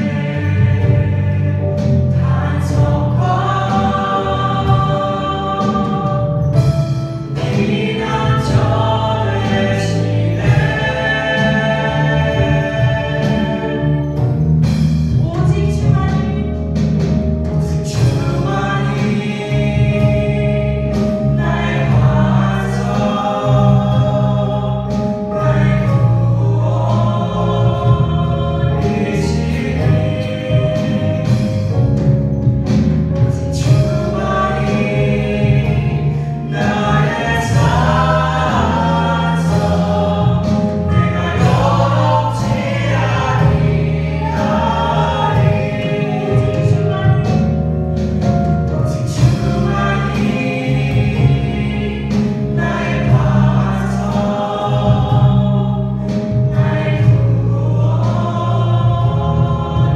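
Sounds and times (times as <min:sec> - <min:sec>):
drum kit: 0:00.0 - 0:59.9
keyboard: 0:00.0 - 0:59.9.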